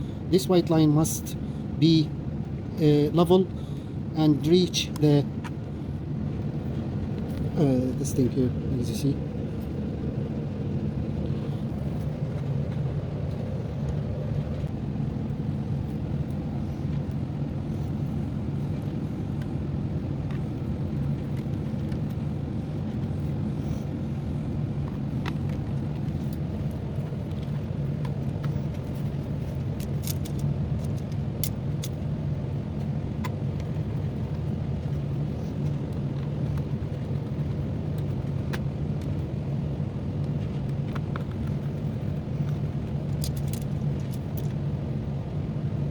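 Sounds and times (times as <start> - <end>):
low background rumble: 0.0 - 45.9.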